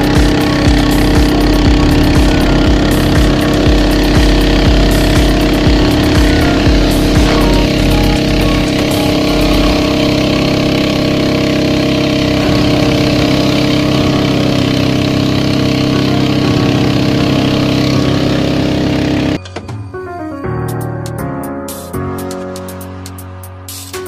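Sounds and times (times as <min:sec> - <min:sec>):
water rushing along hull: 0:00.0 - 0:19.4
motorboat engine running: 0:00.0 - 0:19.5.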